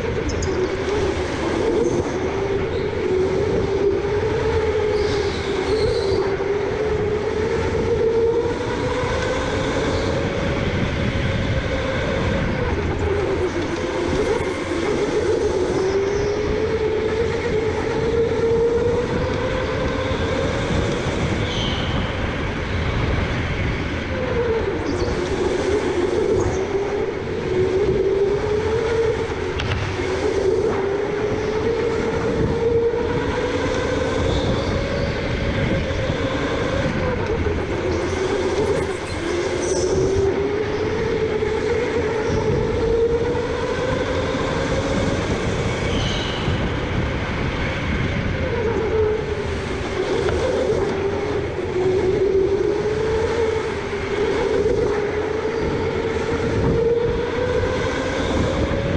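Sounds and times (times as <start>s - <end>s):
electric go-kart motor whining: 0.0s - 58.9s
low rumble of kart on track: 0.0s - 58.9s.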